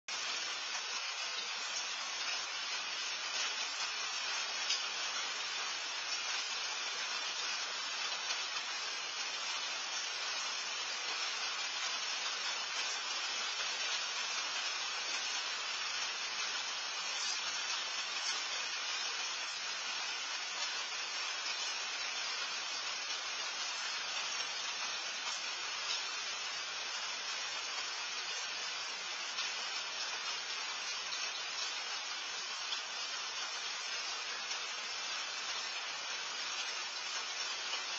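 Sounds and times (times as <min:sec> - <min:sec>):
microphone hiss: 0:00.1 - 0:37.9.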